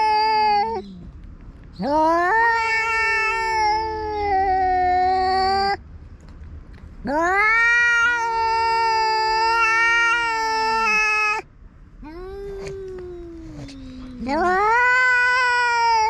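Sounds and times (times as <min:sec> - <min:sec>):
cat yowling: 0:00.0 - 0:01.0, 0:01.8 - 0:05.8, 0:07.0 - 0:11.4, 0:12.0 - 0:16.0.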